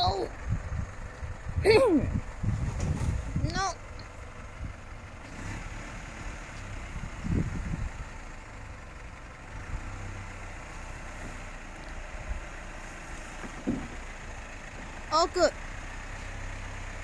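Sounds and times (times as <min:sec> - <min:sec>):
vehicle engine running at low revs: 0:00.0 - 0:17.0.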